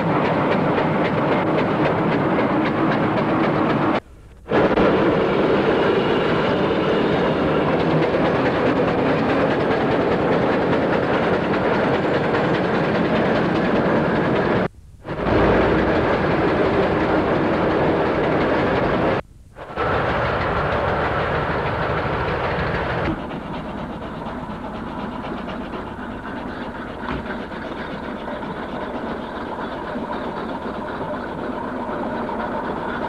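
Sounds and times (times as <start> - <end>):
steam rollers running: 0.0 - 33.0.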